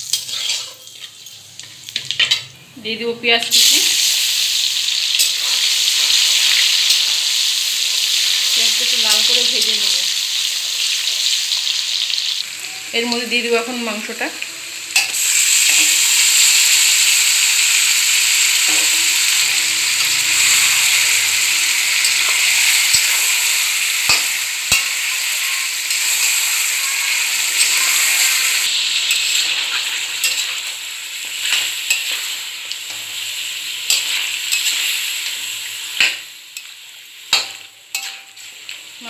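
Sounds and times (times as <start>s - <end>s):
chicken sizzling in hot oil: 0.0s - 2.5s, 3.5s - 39.0s.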